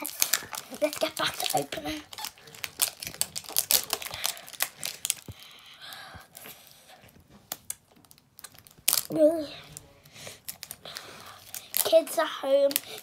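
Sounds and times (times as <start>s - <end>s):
plastic wrapping crinkling and tearing: 0.0s - 5.6s, 7.0s - 13.0s.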